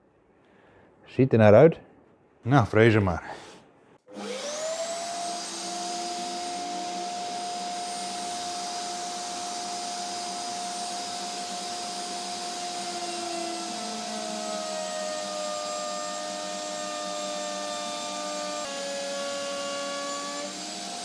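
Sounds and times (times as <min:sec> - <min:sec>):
router cutting wood: 0:04.1 - 0:21.0.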